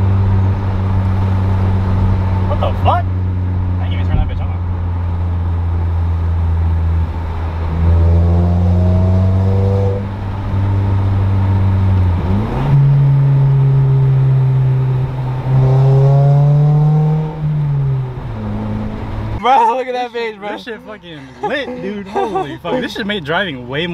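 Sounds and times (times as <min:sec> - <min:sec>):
car engine droning under load: 0:00.0 - 0:23.9.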